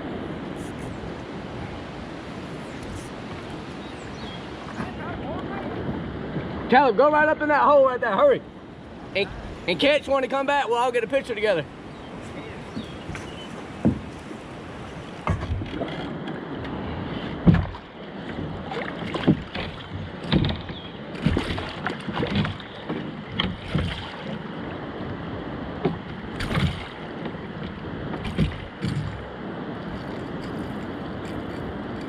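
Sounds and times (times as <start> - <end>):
boat splashes and knocks: 0.0 - 32.0
hiss of wind and water: 0.0 - 32.0.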